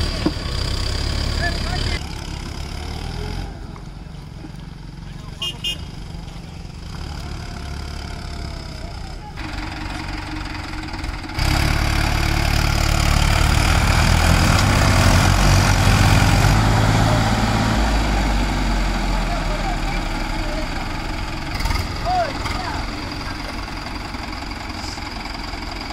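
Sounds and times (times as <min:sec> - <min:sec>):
tractor engine droning: 0:00.0 - 0:25.9.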